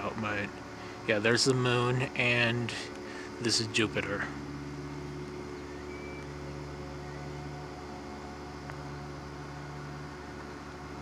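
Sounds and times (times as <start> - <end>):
low hum with faint tones: 0.0 - 11.0.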